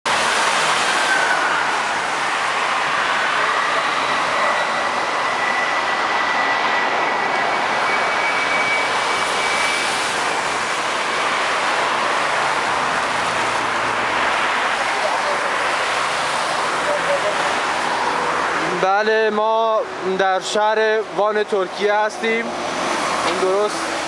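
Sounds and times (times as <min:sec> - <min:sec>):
traffic on a wet road: 0:00.1 - 0:24.0.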